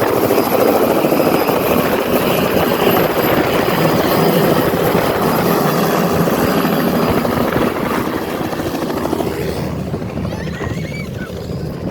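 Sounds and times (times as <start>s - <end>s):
helicopter rotor and engine: 0.0s - 11.9s.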